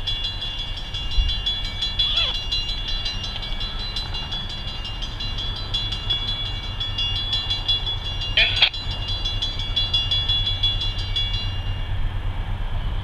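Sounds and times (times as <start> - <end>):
freight train rumble: 0.0 - 13.0
high-pitched metal squeal: 1.0 - 12.0.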